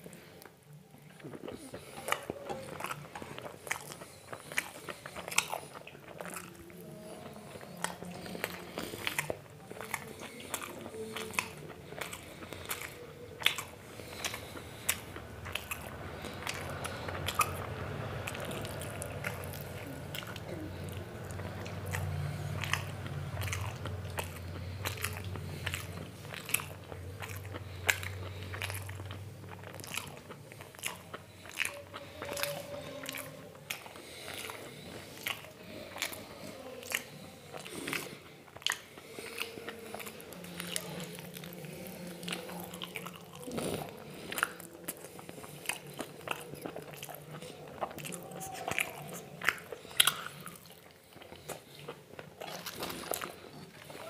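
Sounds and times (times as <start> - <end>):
low steady hum: 0.0 - 54.0
person chewing and crunching food: 0.0 - 54.0.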